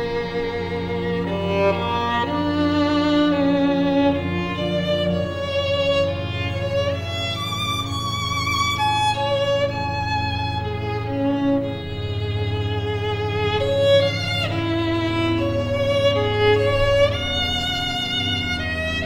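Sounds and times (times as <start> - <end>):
sustained low accompaniment: 0.0 - 19.0
violin playing long held notes: 0.0 - 19.0.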